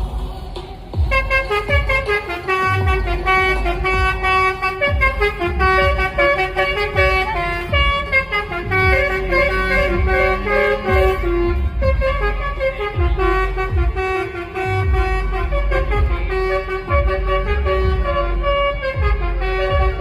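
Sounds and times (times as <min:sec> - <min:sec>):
air horns playing a tune: 0:01.0 - 0:20.0.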